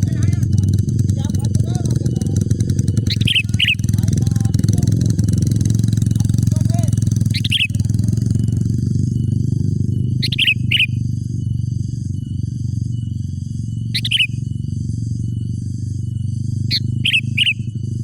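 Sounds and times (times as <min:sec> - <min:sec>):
bird calling: 0:00.0 - 0:15.4, 0:16.1 - 0:17.8
steady low drone: 0:00.0 - 0:18.0.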